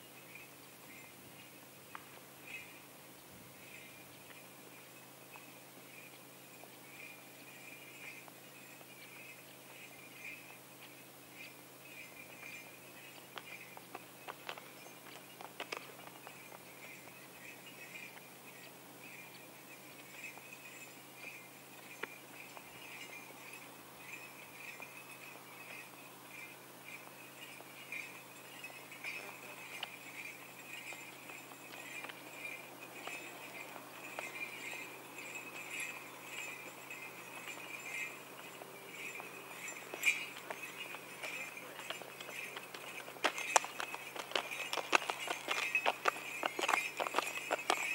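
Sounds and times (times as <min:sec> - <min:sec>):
harness bells jingling: 0:00.0 - 0:47.9
hooves clicking: 0:00.0 - 0:47.9.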